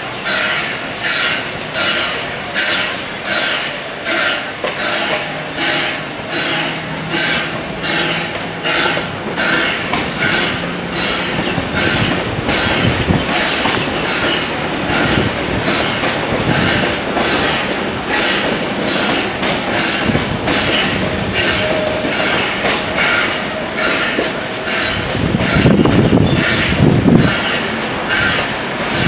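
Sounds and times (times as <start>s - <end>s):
steam locomotive exhaust chuffs: 0.0s - 29.0s
wheel and rail rumble: 0.0s - 29.0s.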